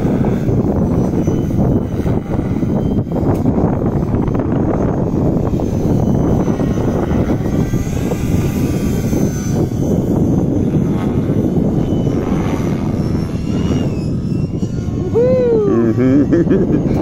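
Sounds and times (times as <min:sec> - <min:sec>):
helicopter rotor blades rushing: 0:00.0 - 0:17.0
high motor whine: 0:00.0 - 0:17.0.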